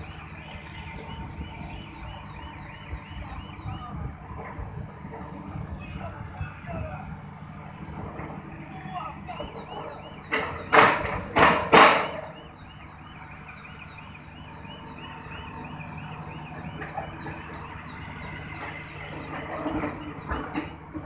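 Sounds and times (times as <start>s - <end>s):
diesel engine running: 0.0s - 21.0s
warbling warning alarm: 0.0s - 21.0s.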